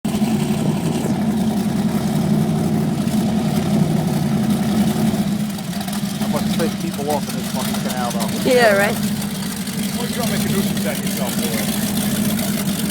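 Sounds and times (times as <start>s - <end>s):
powerboat engine idling: 0.1s - 12.9s.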